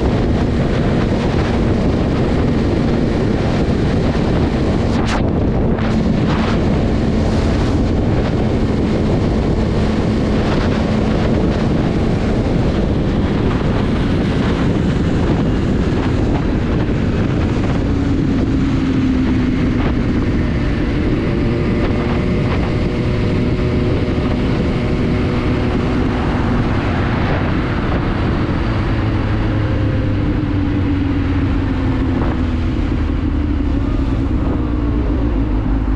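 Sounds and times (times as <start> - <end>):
motorcycle engine: 0.0 - 35.9
wind rush over microphone: 0.0 - 35.9.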